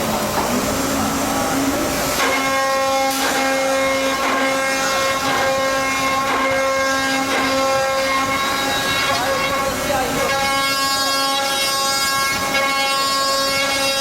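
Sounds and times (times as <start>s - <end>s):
machine cutting wood: 2.0s - 14.0s
spindle motor whining: 2.2s - 14.0s.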